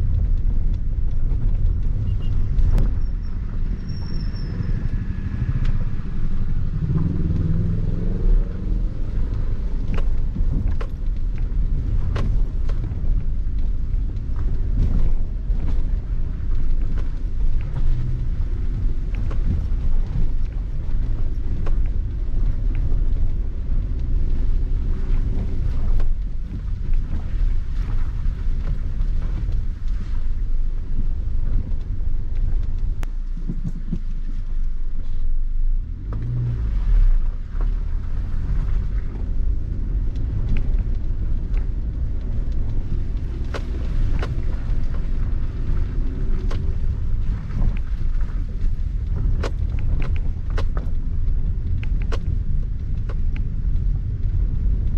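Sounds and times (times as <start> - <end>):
car engine and road rumble: 0.0 - 54.9
car knocking and rattling: 0.0 - 54.9.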